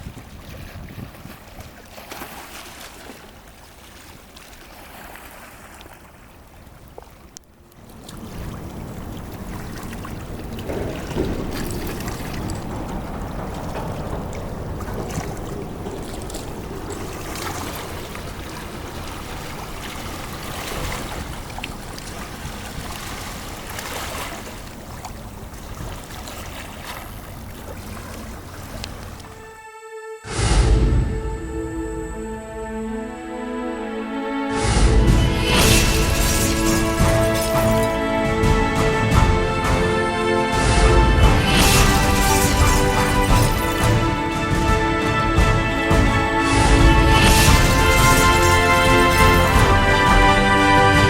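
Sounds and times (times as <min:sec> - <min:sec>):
sea waves washing in: 0:00.0 - 0:29.6, 0:30.2 - 0:51.0.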